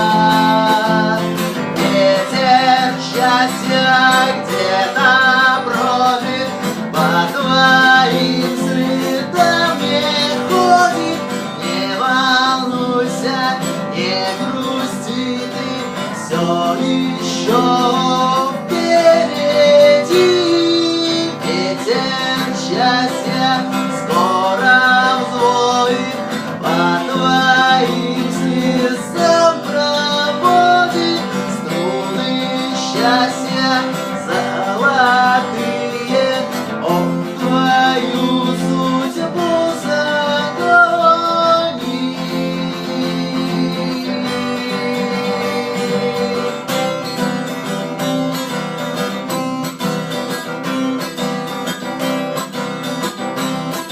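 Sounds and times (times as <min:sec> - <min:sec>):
acoustic guitar playing: 0:00.0 - 0:53.9.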